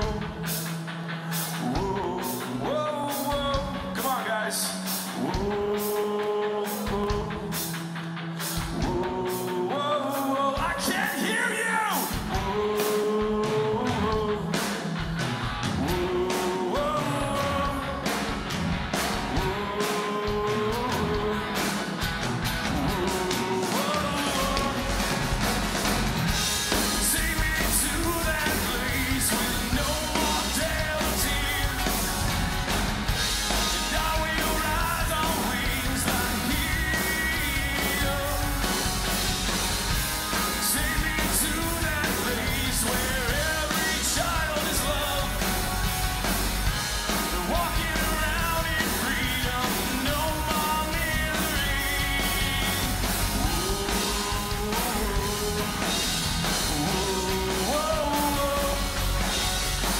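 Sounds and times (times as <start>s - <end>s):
electric guitar lead lines: 0.0s - 59.9s
live rock band playing: 0.0s - 59.9s.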